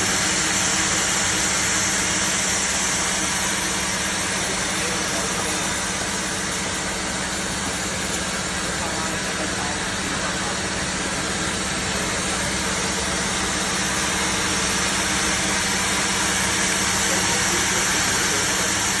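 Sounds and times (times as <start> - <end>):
band saw motor hum: 0.0 - 19.0.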